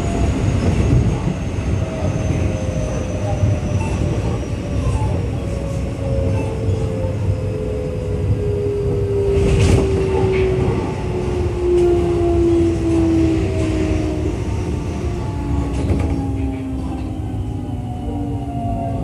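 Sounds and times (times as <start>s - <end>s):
train inverter whine: 0.0s - 19.0s
wheels rumbling on rail: 0.0s - 19.0s.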